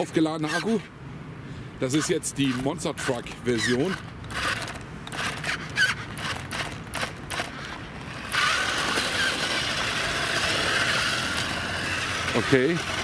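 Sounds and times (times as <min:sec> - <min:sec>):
electric motor whirring: 0:02.0 - 0:13.0
toy car clicks and knocks: 0:02.0 - 0:13.0.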